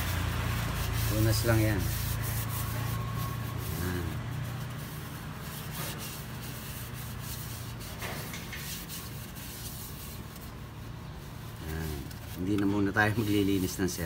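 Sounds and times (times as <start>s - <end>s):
cloth rubbing on plastic: 0.0s - 14.0s.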